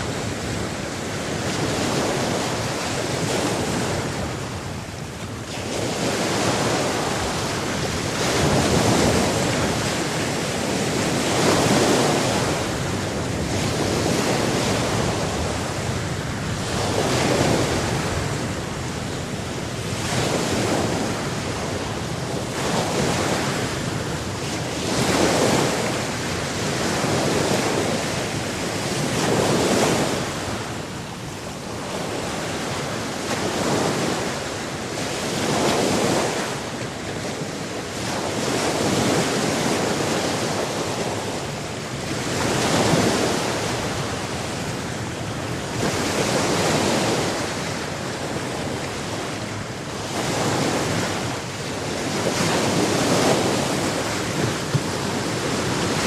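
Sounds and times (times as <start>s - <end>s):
sea waves surging and washing back: 0.0s - 56.0s.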